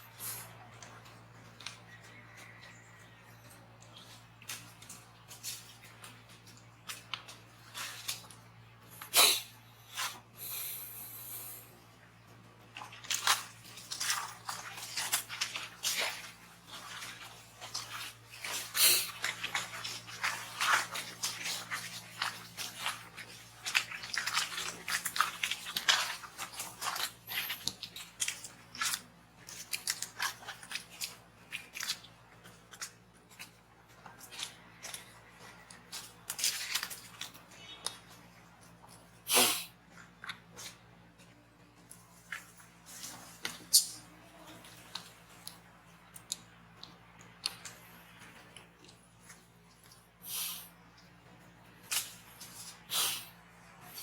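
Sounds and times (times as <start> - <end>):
monkey eating and crunching: 0.0 - 54.0.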